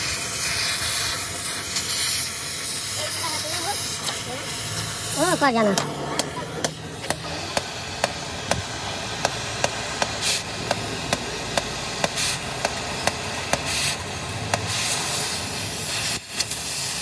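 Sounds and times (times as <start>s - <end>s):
cutting torch hissing: 0.0s - 17.0s.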